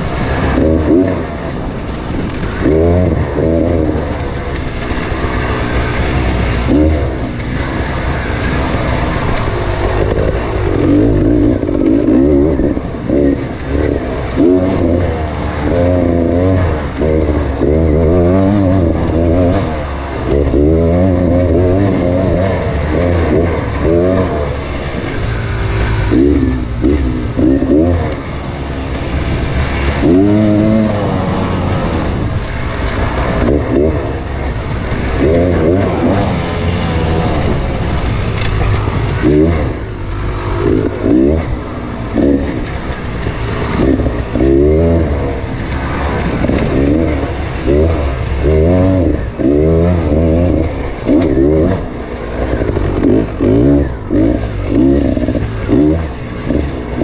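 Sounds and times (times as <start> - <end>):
two-stroke dirt bike engine revving: 0.0 - 57.0.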